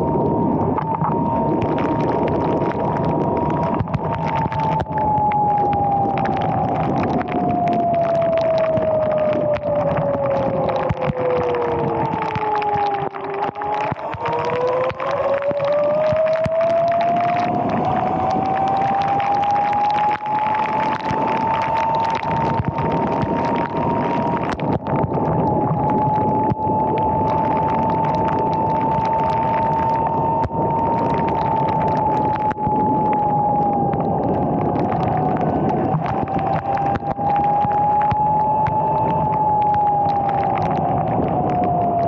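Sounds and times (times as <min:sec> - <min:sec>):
electric motorbike motor whine: 0:00.0 - 0:42.0
tyre noise on wet road: 0:00.0 - 0:42.0
wind: 0:00.0 - 0:42.0.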